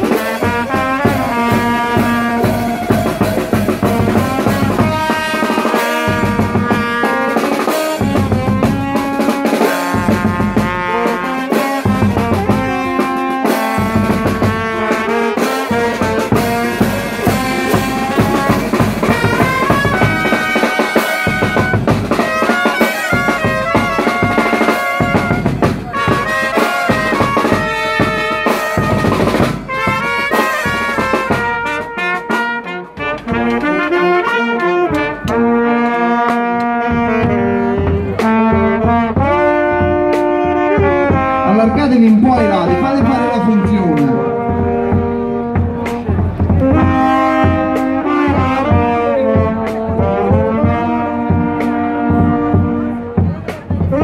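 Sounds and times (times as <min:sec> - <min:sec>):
brass band playing: 0:00.0 - 0:54.0
drum beat: 0:00.0 - 0:54.0.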